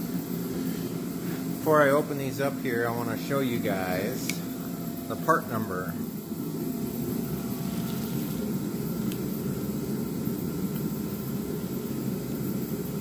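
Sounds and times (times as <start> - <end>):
forced-air heater roaring: 0.0 - 13.0.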